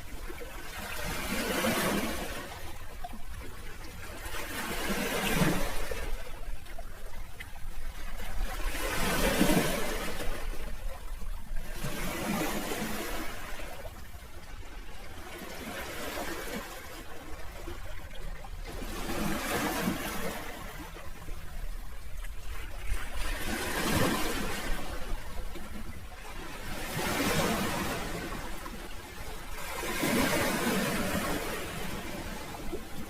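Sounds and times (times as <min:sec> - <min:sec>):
sea waves washing onto shore: 0:00.0 - 0:33.0.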